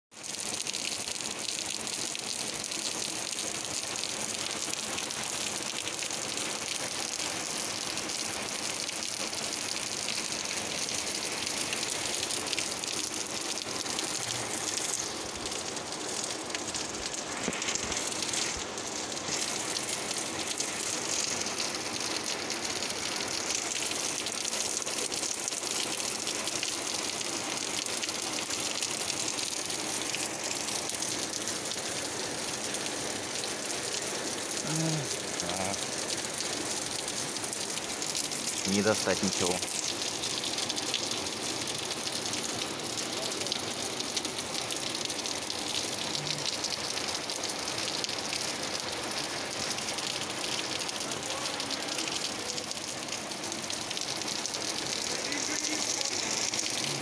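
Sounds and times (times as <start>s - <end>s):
heavy rain on concrete: 0.1s - 57.0s.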